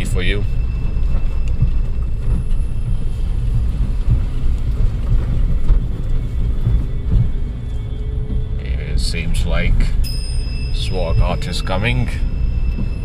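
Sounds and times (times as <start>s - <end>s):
vehicle rumbling on rough road: 0.0s - 13.0s.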